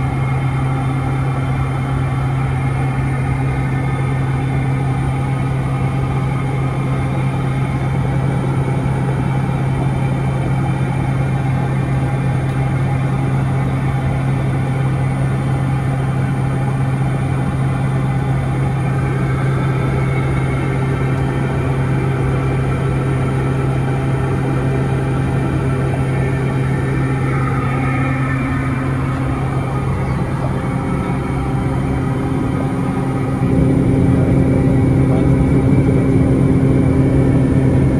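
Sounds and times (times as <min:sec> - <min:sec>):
turboprop engine drone: 0:00.0 - 0:37.9.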